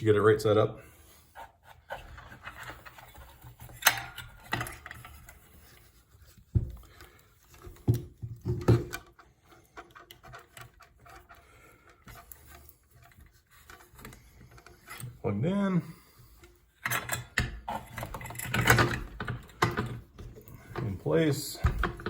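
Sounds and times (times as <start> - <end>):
handling clicks and knocks: 2.0 - 15.2, 16.2 - 22.0.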